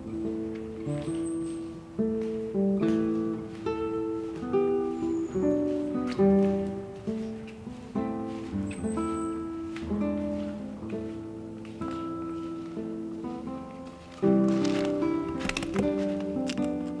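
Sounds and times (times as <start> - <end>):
acoustic guitar picking melody: 0.0 - 17.0.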